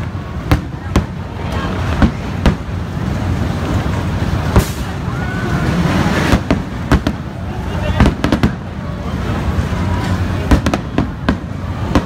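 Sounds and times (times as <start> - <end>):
firework bangs: 0.0 - 12.0
low rumble of fireworks: 0.0 - 12.0.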